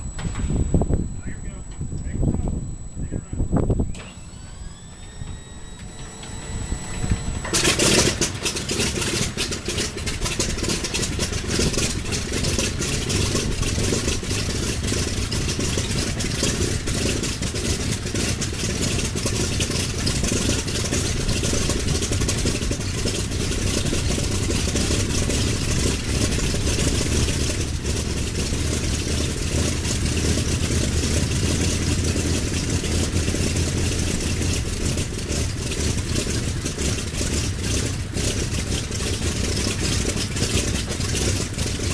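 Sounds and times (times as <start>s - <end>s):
radial engine running: 0.0s - 41.9s.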